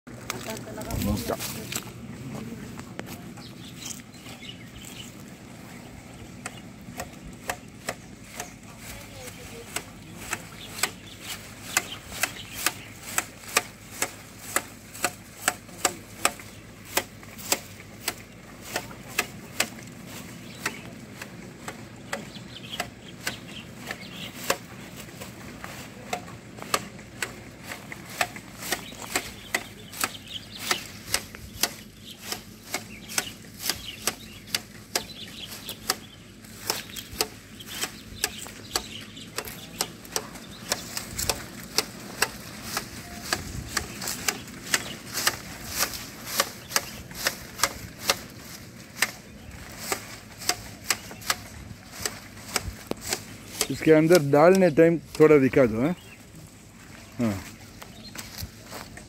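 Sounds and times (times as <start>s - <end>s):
shears snipping: 0.1s - 59.0s.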